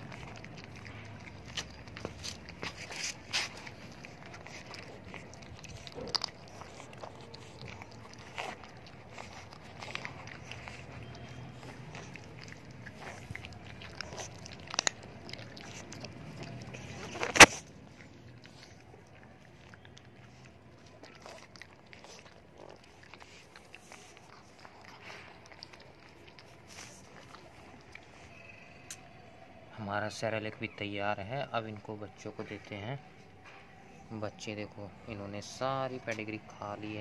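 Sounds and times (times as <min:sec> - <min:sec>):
puppies crunching dry kibble: 0:00.0 - 0:37.0.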